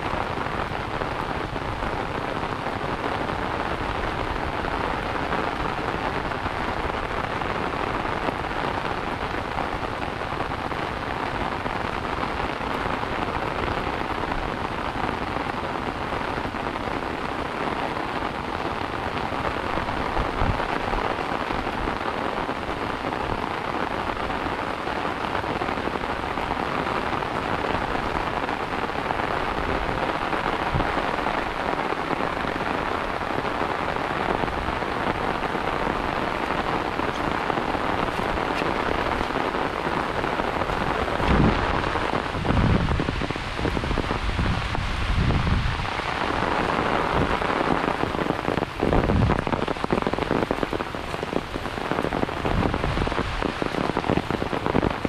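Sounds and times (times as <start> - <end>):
rain on an umbrella: 0.0 - 55.0.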